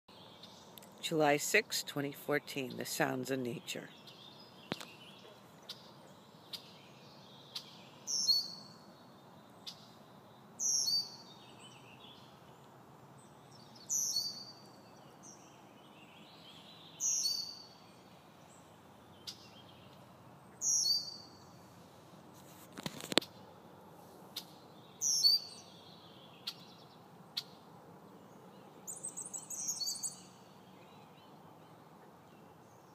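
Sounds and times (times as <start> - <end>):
faint background hiss: 0.1 - 32.9.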